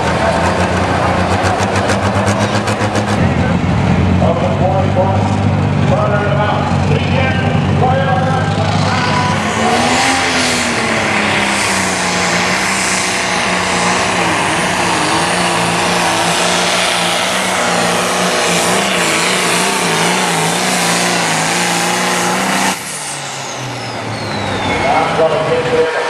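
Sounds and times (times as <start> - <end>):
diesel tractor engine at full throttle: 0.0 - 26.0.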